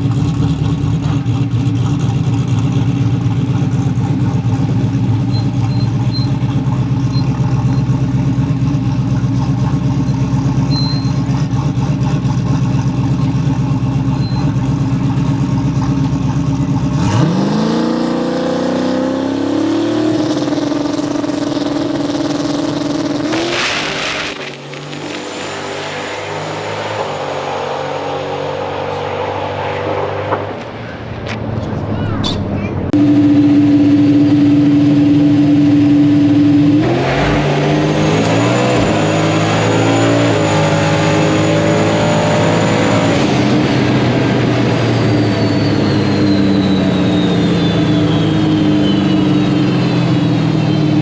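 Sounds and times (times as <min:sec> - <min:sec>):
drag car engine revving: 0:00.0 - 0:51.0.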